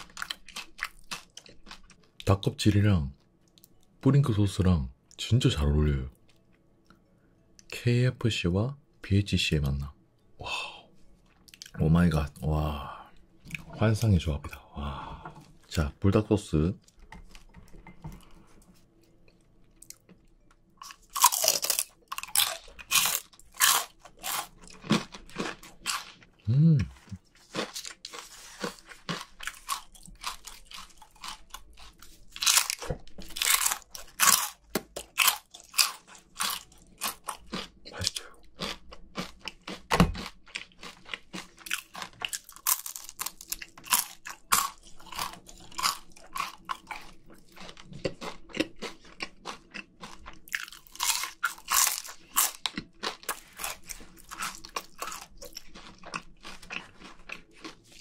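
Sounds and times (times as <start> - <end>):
crunching and chewing fried food: 0.0 - 3.9, 5.8 - 7.6, 11.2 - 12.8, 16.6 - 58.0.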